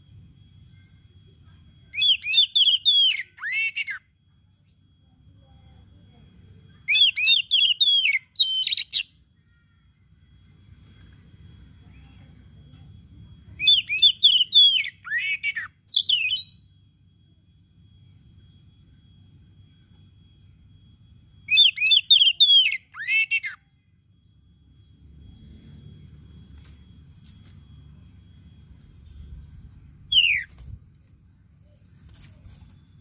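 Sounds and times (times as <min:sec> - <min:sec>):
bird singing whistled notes: 0:00.1 - 0:12.4, 0:13.1 - 0:33.0.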